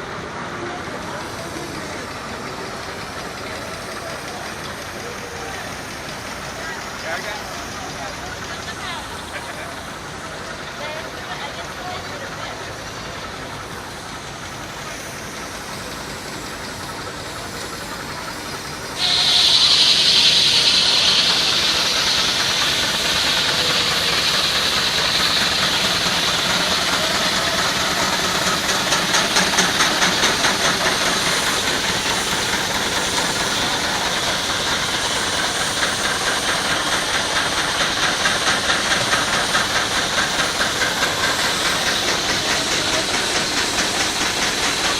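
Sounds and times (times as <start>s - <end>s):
steam engine chuffing: 0.0s - 44.9s
steam hissing: 0.0s - 44.9s.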